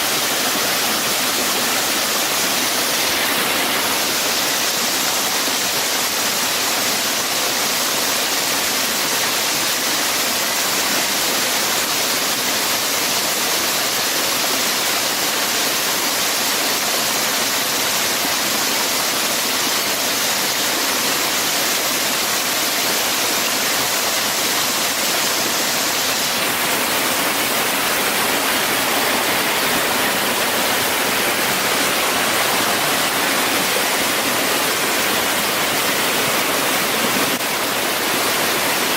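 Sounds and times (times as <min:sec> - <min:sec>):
rushing flowing water: 0:00.0 - 0:38.9.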